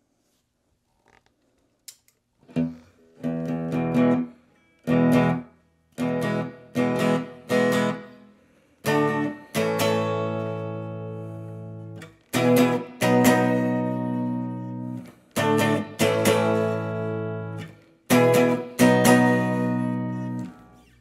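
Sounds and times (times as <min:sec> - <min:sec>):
electric guitar strumming chords: 0:02.5 - 0:20.8.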